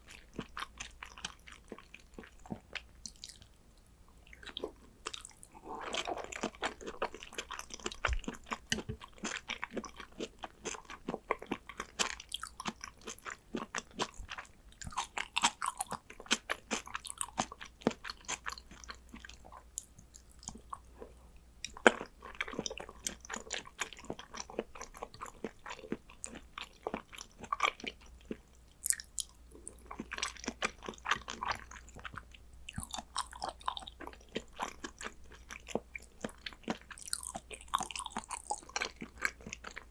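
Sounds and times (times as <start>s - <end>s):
close-miked chewing: 0.0s - 39.9s.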